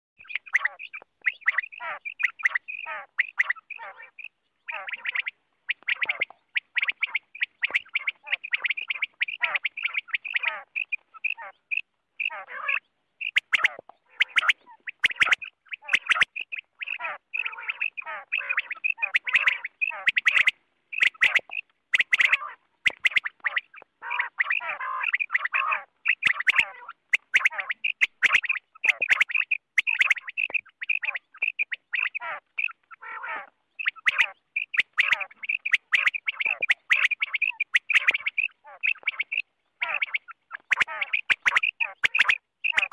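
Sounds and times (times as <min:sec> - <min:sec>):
quail calling: 0:00.2 - 0:42.9.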